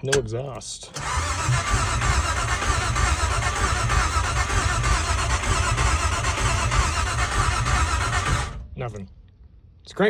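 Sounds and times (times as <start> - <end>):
car engine cranking: 0.0 - 9.1.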